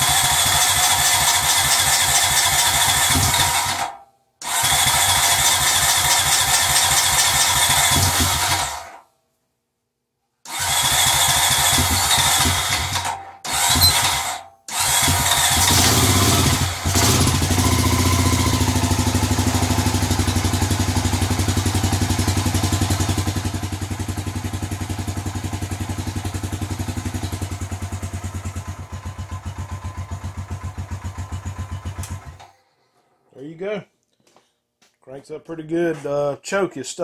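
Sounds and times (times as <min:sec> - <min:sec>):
atv engine cranking and idling: 0:00.0 - 0:09.0, 0:10.5 - 0:32.6.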